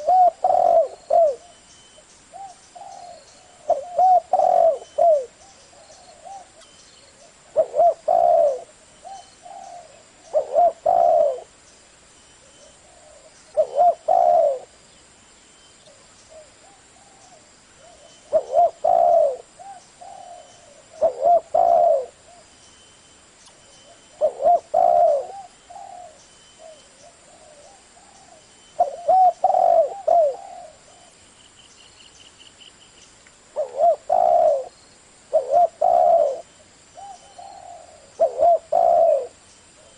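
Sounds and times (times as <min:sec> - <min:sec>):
dove cooing: 0:00.0 - 0:01.6, 0:02.3 - 0:11.6, 0:12.5 - 0:14.8, 0:15.9 - 0:22.5, 0:23.8 - 0:31.2, 0:33.6 - 0:34.7, 0:35.3 - 0:39.9.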